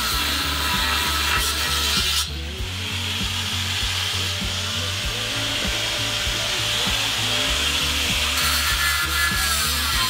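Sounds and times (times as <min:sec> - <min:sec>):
sandblaster hissing: 0:00.0 - 0:10.0.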